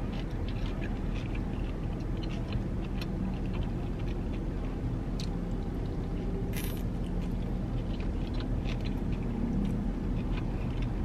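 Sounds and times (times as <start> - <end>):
person chewing: 0.0 - 11.0
steady low hum: 0.0 - 11.0.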